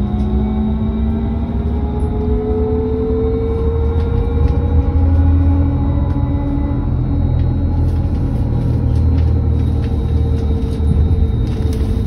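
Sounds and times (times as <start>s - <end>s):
bus systems humming: 0.0s - 12.0s.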